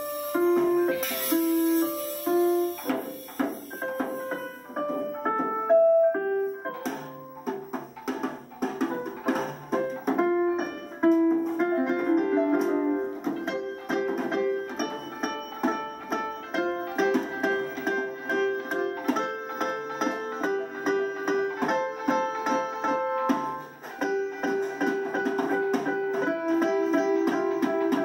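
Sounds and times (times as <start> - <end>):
electronic keyboard notes: 0.0 - 28.0
toy drum taps: 0.3 - 5.7, 6.7 - 28.0.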